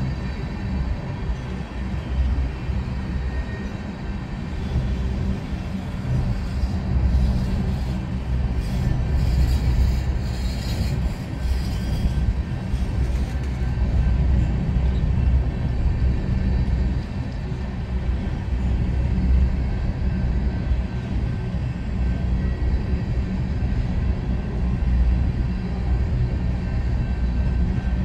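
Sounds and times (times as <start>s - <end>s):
train cars rolling on rails: 0.0s - 28.0s.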